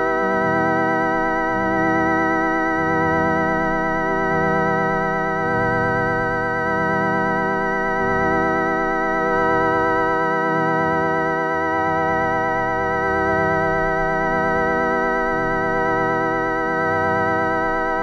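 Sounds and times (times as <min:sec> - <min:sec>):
organ-like electronic drone: 0:00.0 - 0:18.0.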